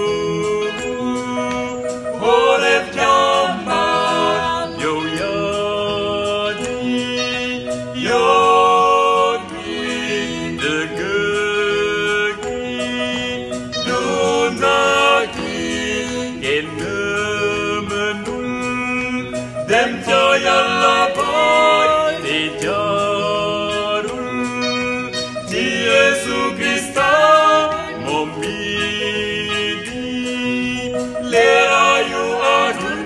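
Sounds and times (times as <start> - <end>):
group singing a gospel song: 0.0 - 33.0
instrumental backing: 0.0 - 33.0.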